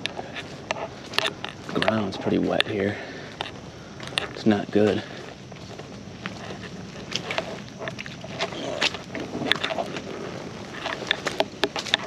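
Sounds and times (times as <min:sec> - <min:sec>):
footsteps on wet ground: 0:00.0 - 0:12.0.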